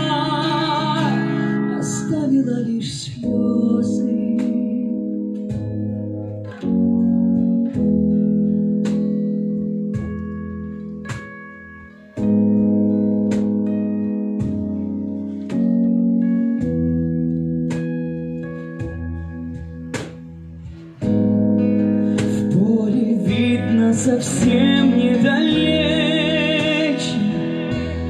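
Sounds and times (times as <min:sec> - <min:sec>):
acoustic guitar chords: 0:00.0 - 0:28.0
keyboard chords: 0:00.0 - 0:28.0.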